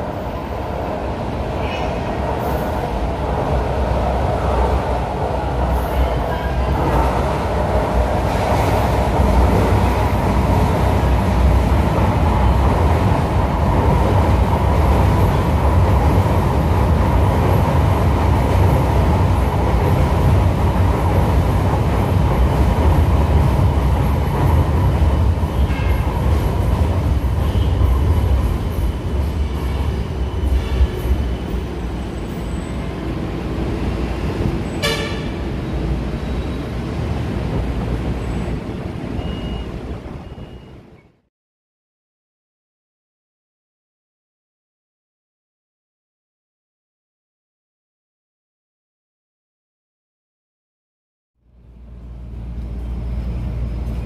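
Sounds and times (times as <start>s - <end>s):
light rail train rumbling: 0.0s - 41.3s, 51.4s - 54.0s.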